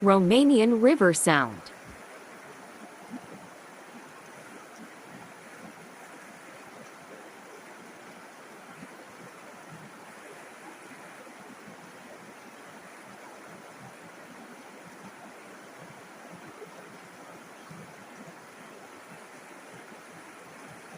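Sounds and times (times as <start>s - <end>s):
river flowing: 0.0s - 20.9s.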